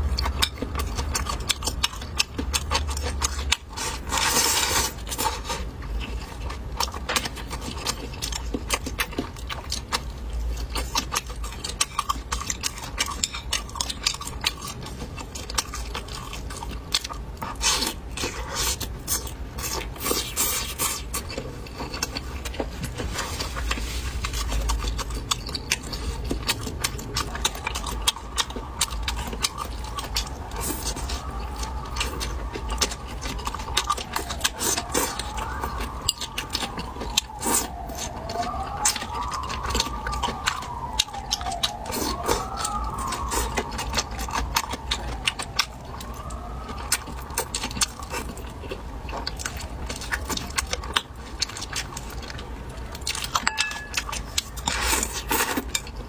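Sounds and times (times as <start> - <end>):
person chewing and biting: 0.0 - 56.0.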